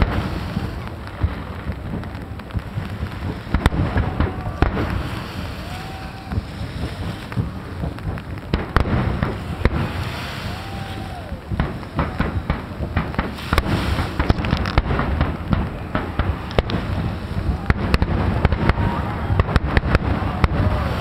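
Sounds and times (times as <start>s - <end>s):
firework shells bursting: 0.0s - 21.0s
low rumble of bursts: 0.0s - 21.0s.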